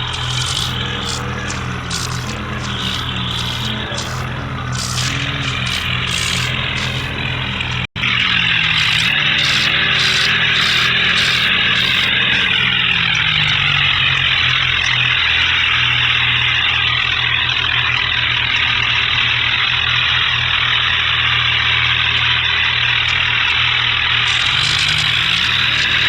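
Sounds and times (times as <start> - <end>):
vehicle engine running loudly: 0.0 - 22.1, 24.0 - 26.0.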